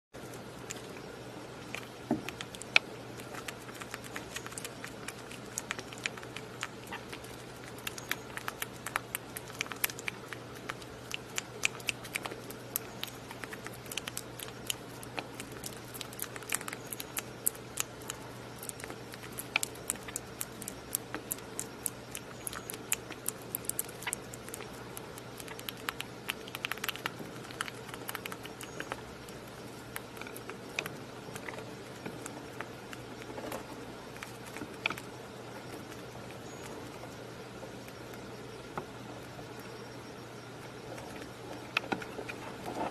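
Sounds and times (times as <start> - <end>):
faint steady hum: 0.2 - 42.9
rabbit chewing wetly: 0.2 - 42.9.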